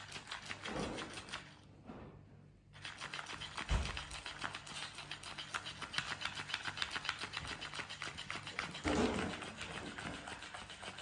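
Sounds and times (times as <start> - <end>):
toy fish tail slapping floor: 0.0 - 1.7, 2.7 - 11.0.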